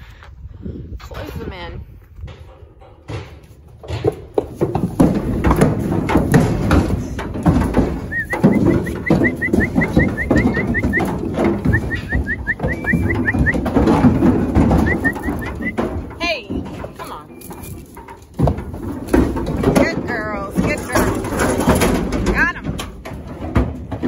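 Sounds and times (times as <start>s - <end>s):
cattle hooves on wooden chute: 2.0s - 24.0s.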